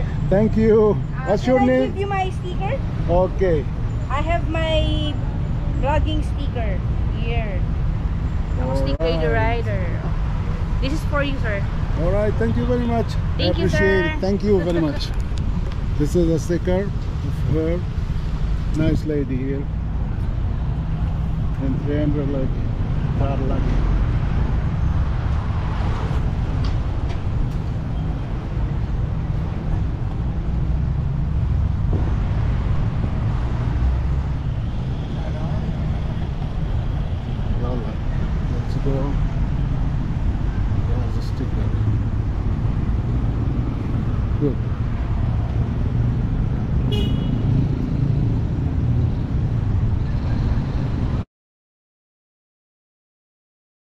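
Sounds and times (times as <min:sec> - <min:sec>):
street traffic rumble: 0:00.0 - 0:51.2.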